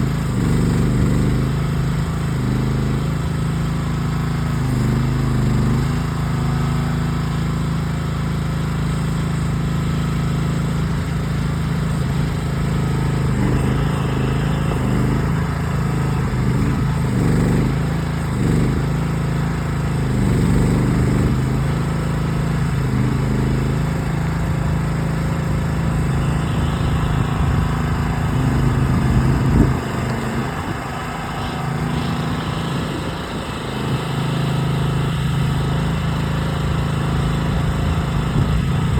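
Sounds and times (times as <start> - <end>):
small gas engine running: 0.0 - 38.9.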